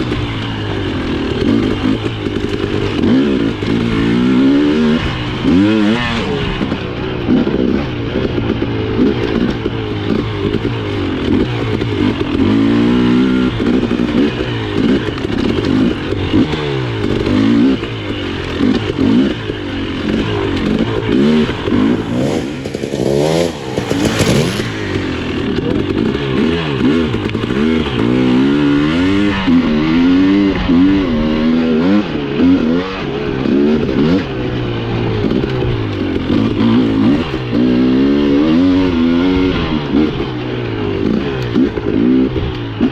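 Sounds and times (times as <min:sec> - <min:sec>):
dirt bike engine revving: 0:00.0 - 0:42.6.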